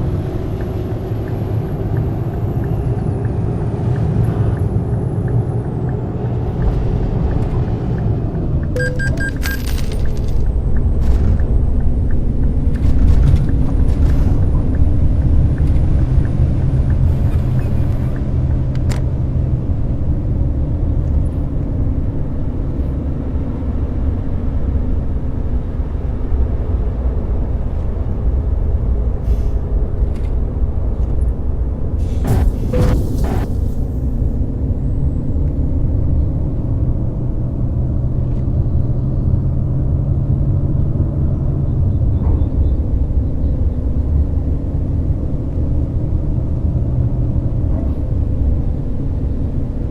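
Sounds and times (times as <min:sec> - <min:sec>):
coach engine and road noise: 0:00.0 - 0:49.9.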